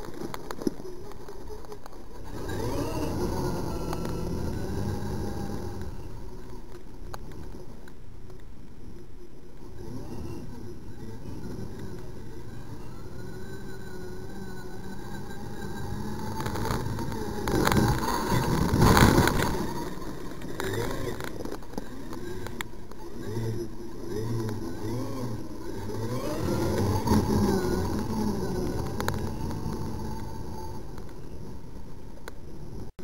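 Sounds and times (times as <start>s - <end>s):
rc truck motor revving: 0.0s - 33.0s.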